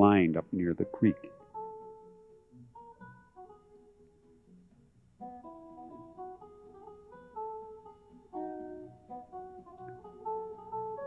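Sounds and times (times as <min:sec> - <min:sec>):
acoustic guitar picking melody: 0:00.0 - 0:11.0.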